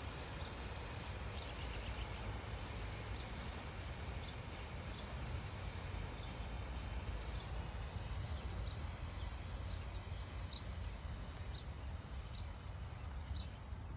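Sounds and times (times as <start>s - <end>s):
faint hiss: 0.0s - 13.9s.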